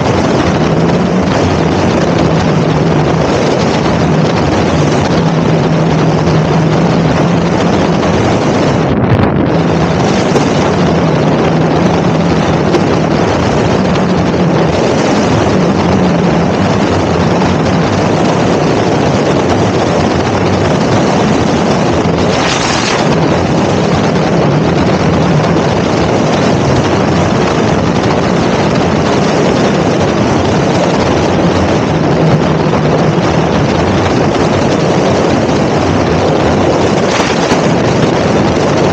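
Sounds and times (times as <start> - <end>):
wind roaring over microphone: 0.0 - 38.9.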